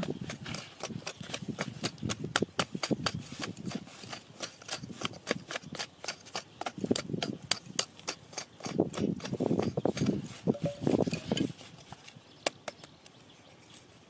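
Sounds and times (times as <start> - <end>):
knife chopping into dry soil: 0.0 - 13.0.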